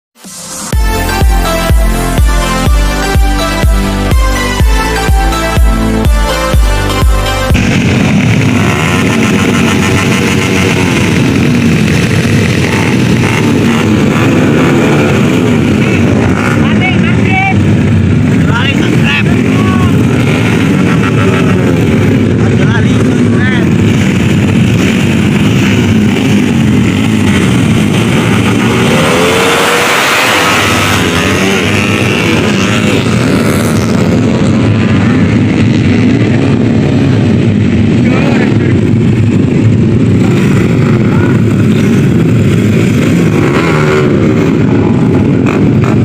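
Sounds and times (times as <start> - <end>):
motorcycle engines revving: 0.2 - 46.0.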